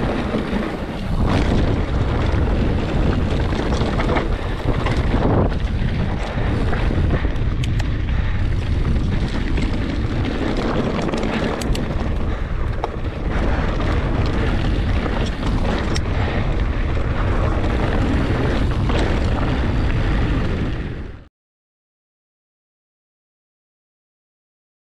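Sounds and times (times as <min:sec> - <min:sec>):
bike clicks and rattles: 0:00.0 - 0:21.2
wind buffeting microphone: 0:00.0 - 0:21.2.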